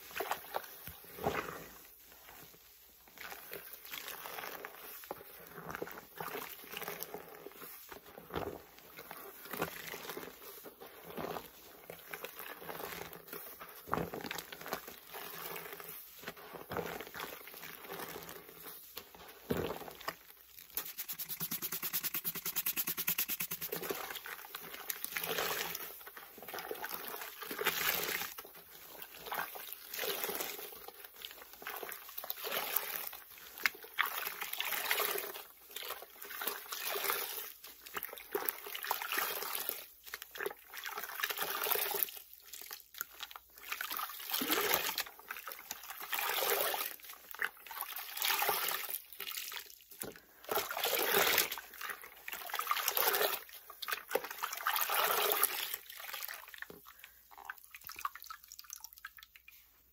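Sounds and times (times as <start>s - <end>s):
wet sponges squelching: 0.0s - 59.9s.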